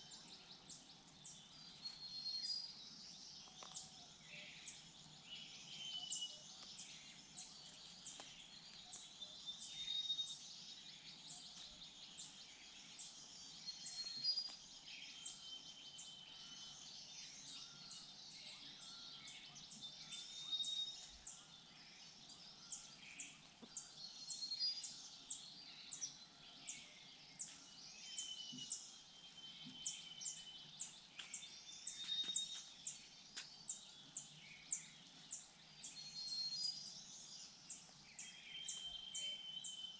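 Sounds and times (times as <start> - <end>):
drawn-out whistled bird notes: 0.0 - 39.9.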